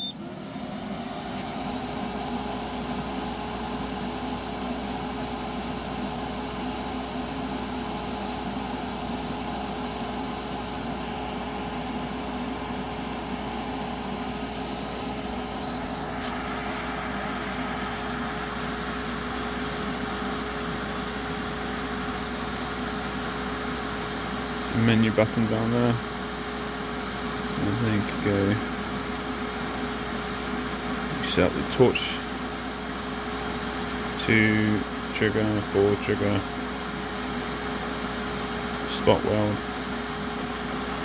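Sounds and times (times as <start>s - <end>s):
constant hum: 0.0s - 41.0s
welder cooling fan whirring: 0.0s - 41.0s.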